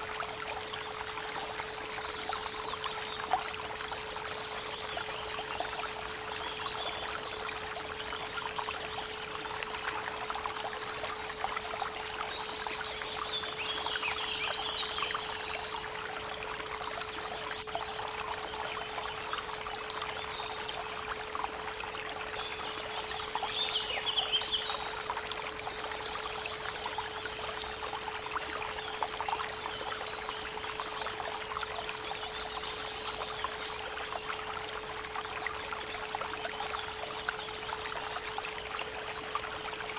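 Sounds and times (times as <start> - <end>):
creek running: 0.0 - 39.9.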